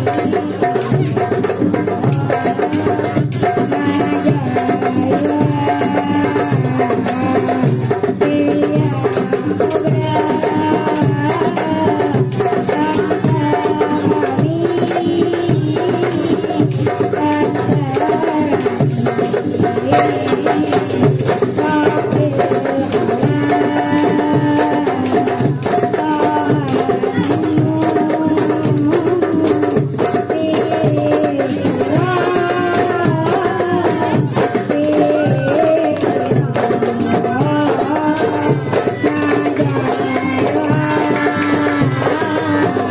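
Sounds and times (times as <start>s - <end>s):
hand drums beating: 0.0s - 42.9s.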